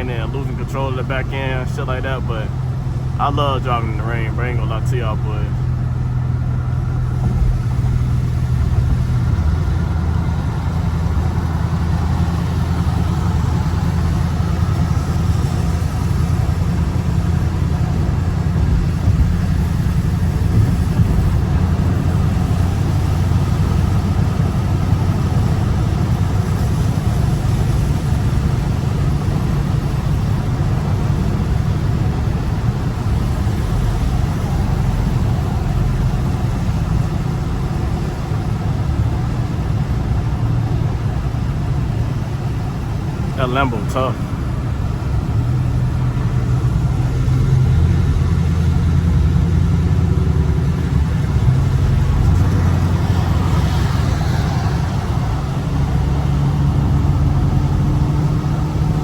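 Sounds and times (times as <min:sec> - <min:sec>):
car engine low drone: 0:00.0 - 0:59.0.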